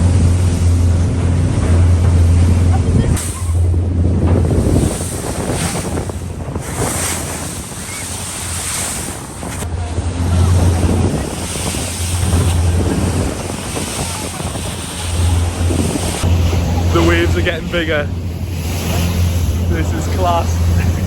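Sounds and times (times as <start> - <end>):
boat engines droning: 0.0 - 21.0
rushing sea water: 0.0 - 21.0
wind buffeting microphone: 0.0 - 21.0.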